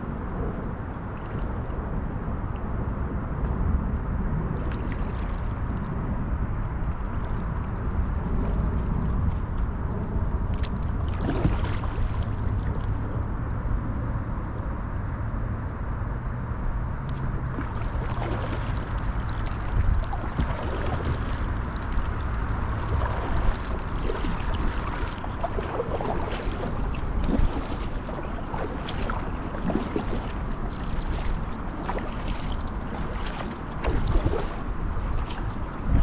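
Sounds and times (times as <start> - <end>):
water splashing around kayak: 0.0 - 14.6, 17.0 - 36.0
wind rumble on microphone: 0.0 - 36.0.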